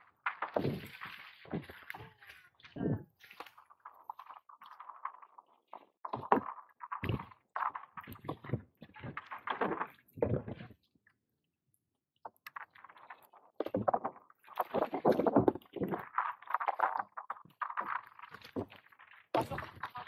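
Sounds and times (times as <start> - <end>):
kayak paddle splashing: 0.0 - 10.8, 12.3 - 20.0.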